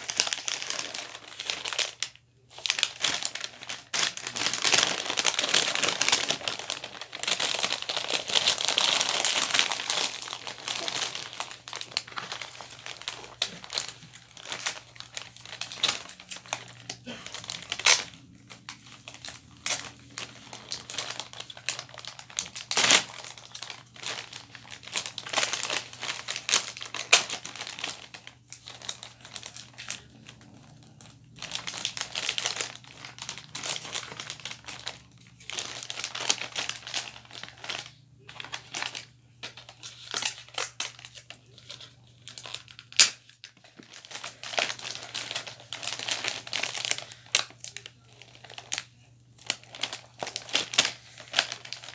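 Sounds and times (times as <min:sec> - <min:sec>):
wrapping paper crinkling: 0:00.0 - 0:51.9.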